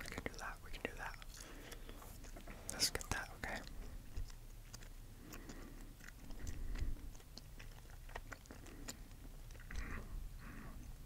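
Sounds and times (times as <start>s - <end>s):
chewing gum clicks and smacks: 0.0s - 10.1s.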